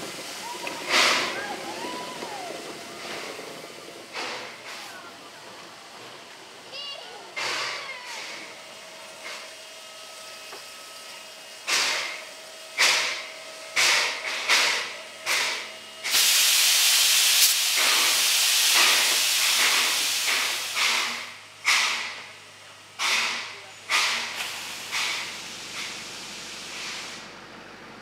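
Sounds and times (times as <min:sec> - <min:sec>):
steam locomotive exhaust chuffs: 0:00.0 - 0:06.4, 0:07.4 - 0:27.9
loud hiss of steam: 0:00.0 - 0:06.6, 0:07.2 - 0:27.4.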